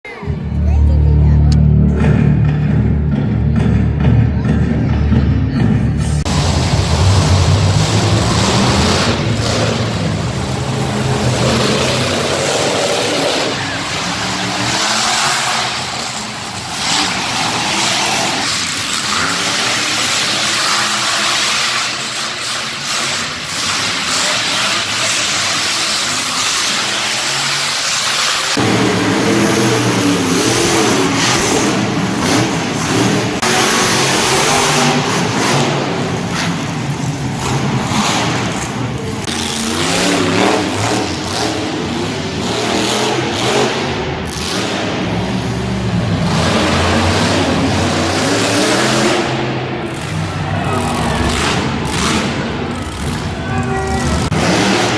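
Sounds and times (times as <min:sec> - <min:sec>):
monster truck engines revving: 0:00.0 - 0:54.9.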